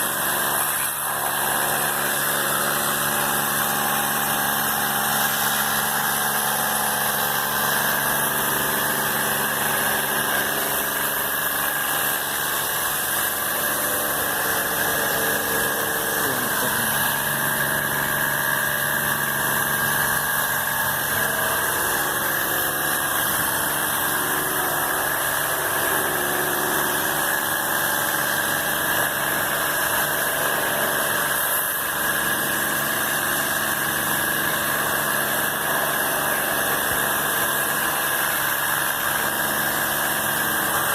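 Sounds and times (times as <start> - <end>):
motor running with hiss: 0.0 - 40.9.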